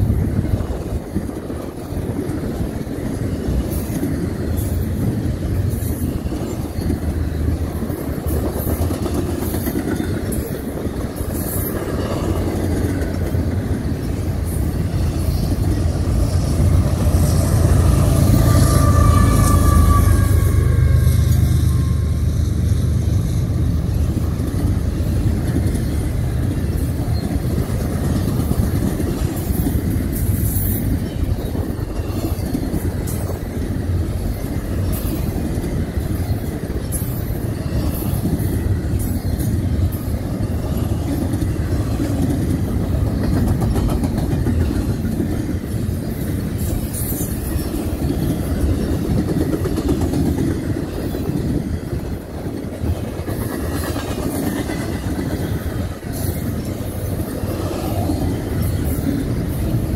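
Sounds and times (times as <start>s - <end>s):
freight train wheels rumbling: 0.0s - 59.9s
train clatter and ticks: 0.0s - 59.9s.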